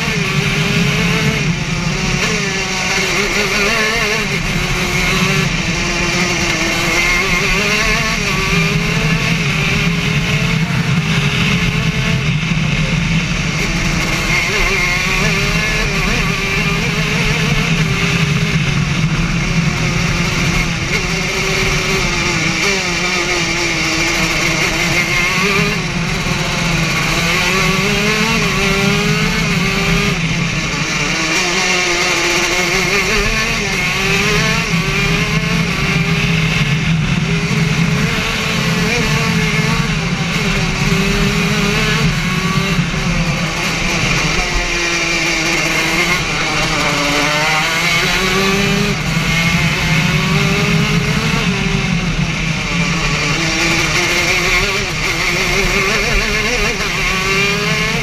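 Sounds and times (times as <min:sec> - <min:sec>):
racing kart engine: 0:00.0 - 0:58.0.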